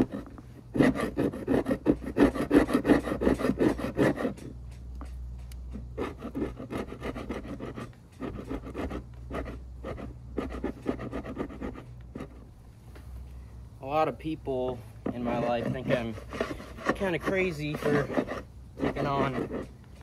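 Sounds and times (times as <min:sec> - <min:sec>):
hand tool scraping caulk: 0:00.0 - 0:12.4, 0:14.7 - 0:20.0.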